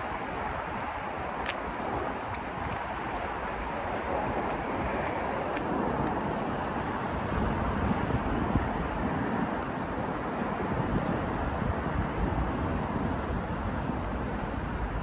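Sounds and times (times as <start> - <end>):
street ambience low rumble: 0.0 - 15.0.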